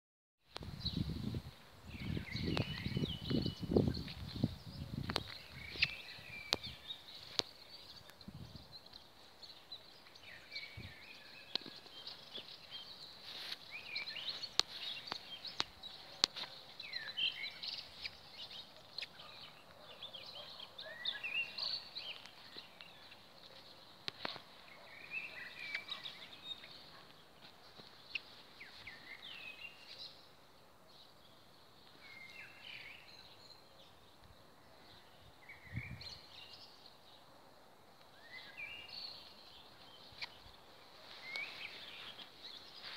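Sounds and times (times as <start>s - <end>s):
songbirds chirping: 0.4s - 42.9s.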